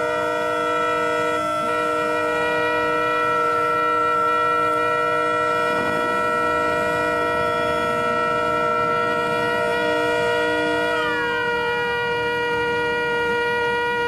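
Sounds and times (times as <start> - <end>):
boat horns sounding a chord: 0.0 - 14.0
gliding horn: 0.0 - 14.0.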